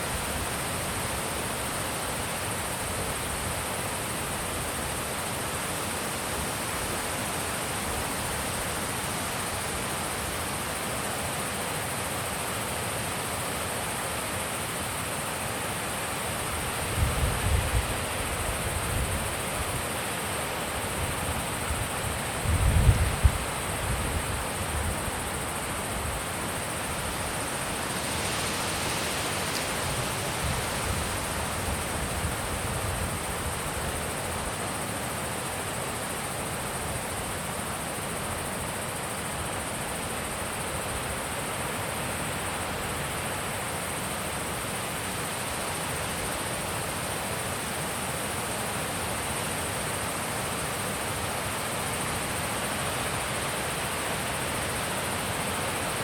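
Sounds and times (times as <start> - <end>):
high-pitched hiss: 0.0 - 56.0.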